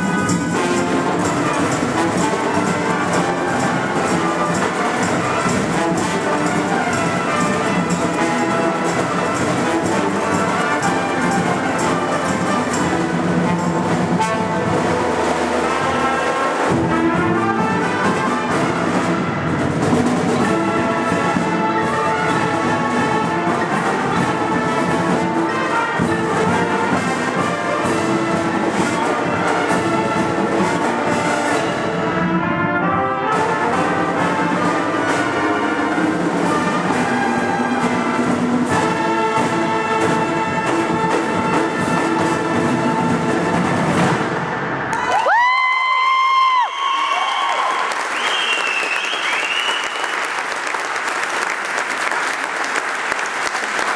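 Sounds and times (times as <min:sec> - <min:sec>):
drum strikes: 0:00.0 - 0:32.3, 0:33.3 - 0:44.7
trumpets and trombones melody: 0:00.0 - 0:44.9
marching band playing: 0:00.0 - 0:53.9.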